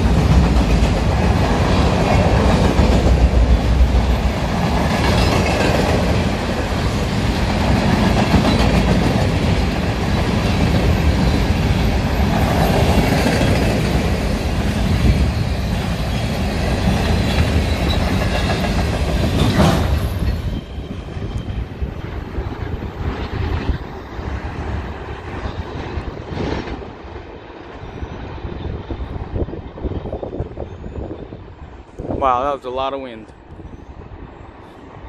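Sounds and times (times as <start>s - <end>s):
train wheels clattering on rails: 0.0s - 30.9s
wind buffeting microphone: 0.0s - 32.7s.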